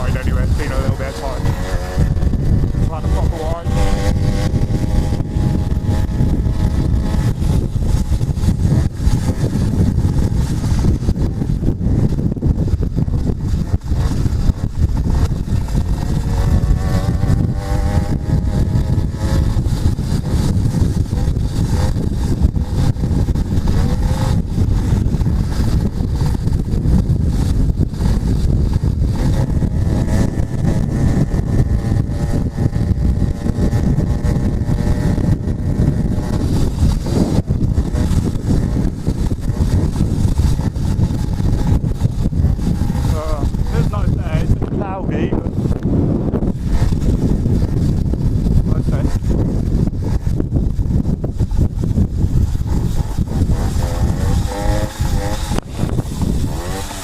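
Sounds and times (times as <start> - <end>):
two-stroke bicycle engine running: 0.0 - 57.0
wind and road noise rumble: 0.0 - 57.0.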